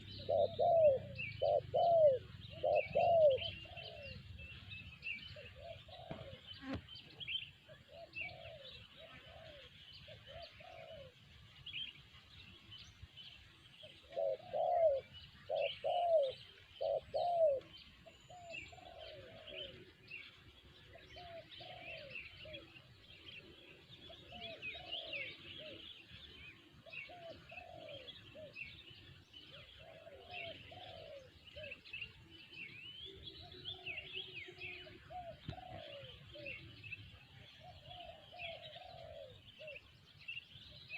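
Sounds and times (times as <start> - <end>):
doves cooing: 0.0 - 11.2, 13.8 - 39.9
small birds chirping: 0.0 - 40.9.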